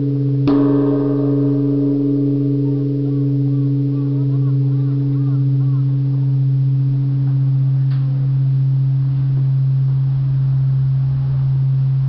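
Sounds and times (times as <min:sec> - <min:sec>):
large temple bell humming: 0:00.0 - 0:12.0.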